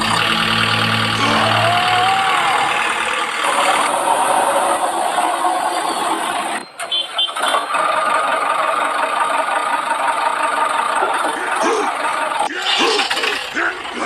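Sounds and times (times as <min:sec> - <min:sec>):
small digger engine running: 0:00.0 - 0:14.0.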